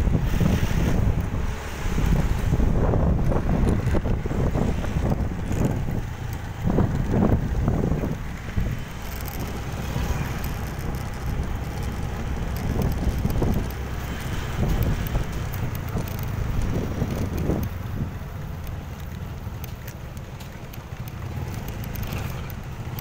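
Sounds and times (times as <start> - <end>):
motorcycle engine and road rumble: 0.0 - 23.0
wind buffeting microphone: 0.0 - 23.0.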